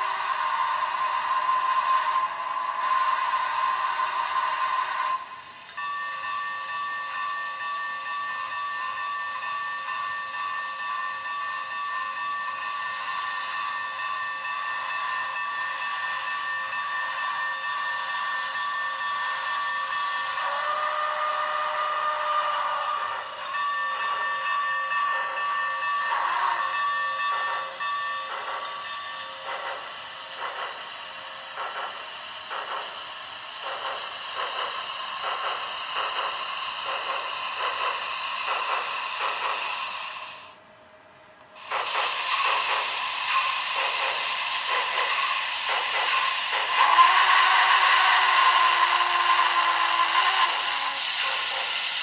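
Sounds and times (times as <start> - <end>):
steam chuffing: 0.0 - 40.6, 41.6 - 52.0
steam locomotive chime whistle: 0.0 - 52.0.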